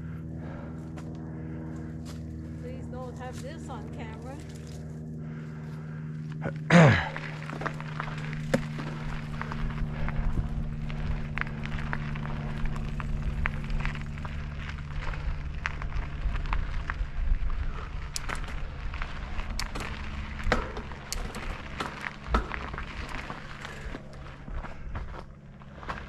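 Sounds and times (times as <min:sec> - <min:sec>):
vehicle engine running: 0:00.0 - 0:26.0
low rumble: 0:03.8 - 0:26.0.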